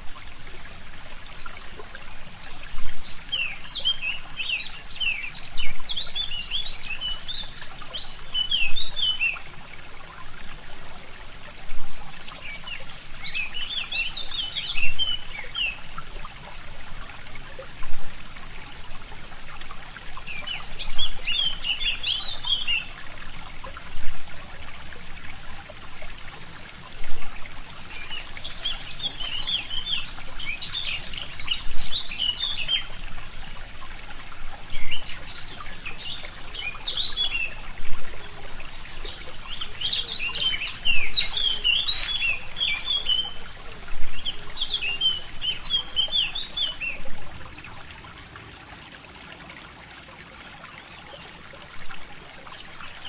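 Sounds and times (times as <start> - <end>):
stream trickling: 0.0 - 53.0
songbirds chirping: 1.3 - 9.6, 10.9 - 17.6, 18.4 - 47.7.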